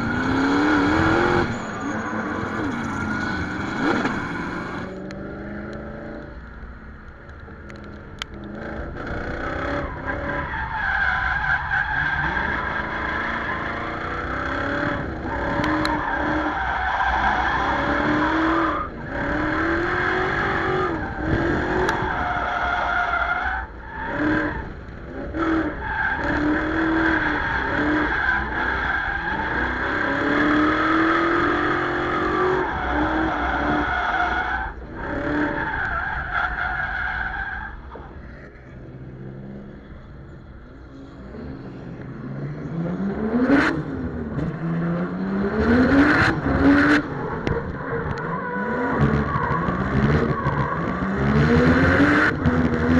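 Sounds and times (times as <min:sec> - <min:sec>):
car engine revving: 0:00.0 - 0:06.6, 0:07.3 - 0:36.2, 0:41.0 - 0:52.9.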